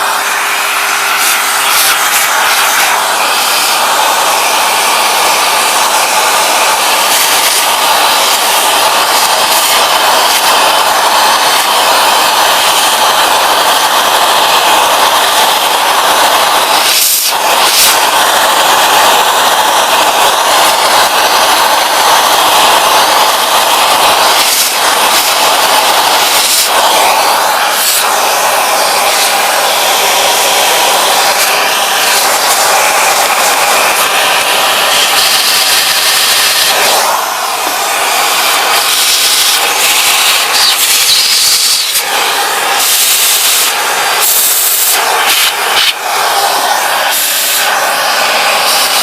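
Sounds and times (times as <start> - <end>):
vacuum cleaner running: 0.0 - 49.0.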